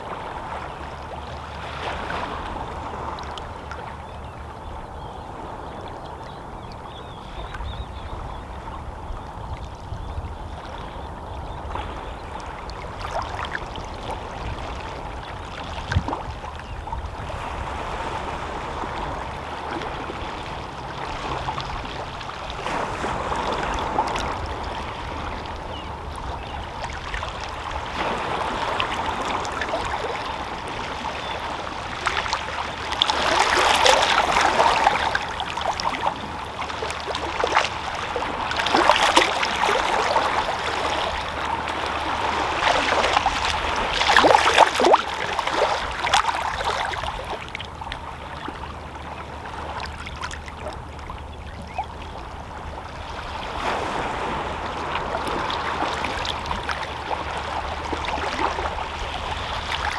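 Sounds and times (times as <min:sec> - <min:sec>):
sea waves lapping against rocks: 0:00.0 - 0:03.9, 0:11.5 - 0:59.9.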